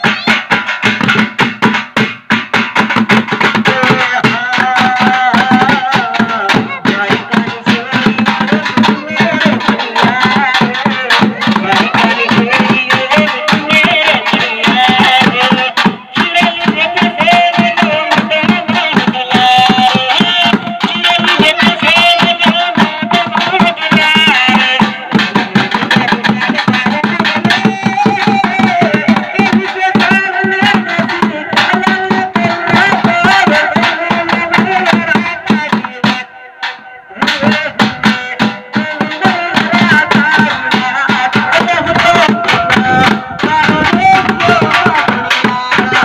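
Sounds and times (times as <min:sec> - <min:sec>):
man singing through loudspeaker: 0:00.0 - 0:01.8, 0:02.8 - 0:46.0
drumming on plastic buckets: 0:00.0 - 0:46.0.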